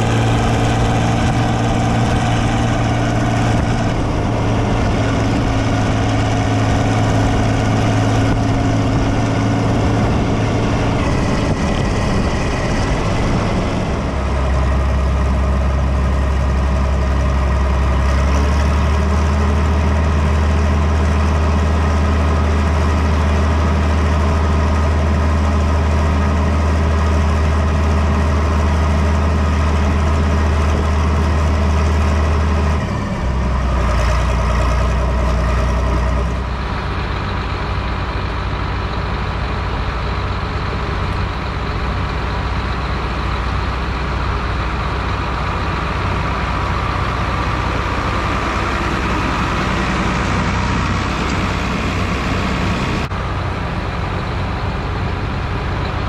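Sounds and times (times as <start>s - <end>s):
farm vehicle engine humming: 0.0s - 56.0s.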